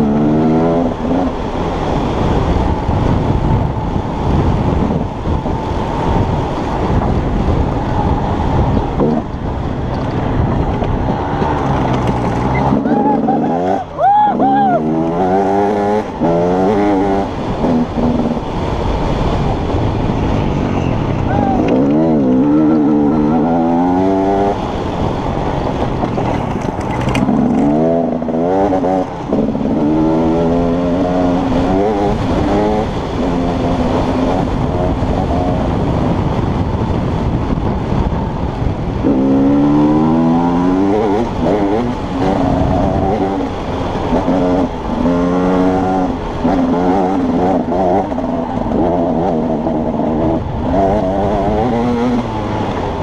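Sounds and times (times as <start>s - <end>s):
motorcycle engine revving: 0.0s - 53.0s
wind and trail noise: 0.0s - 53.0s.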